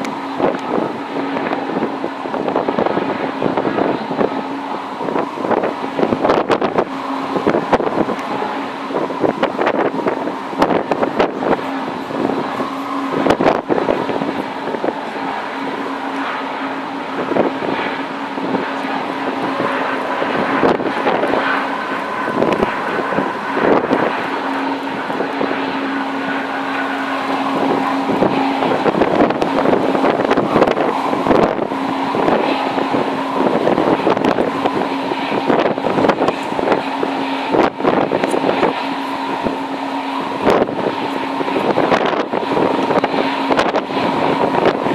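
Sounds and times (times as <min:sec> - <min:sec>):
jet engines humming and whining: 0:00.0 - 0:44.9
wind buffeting microphone: 0:00.0 - 0:44.9.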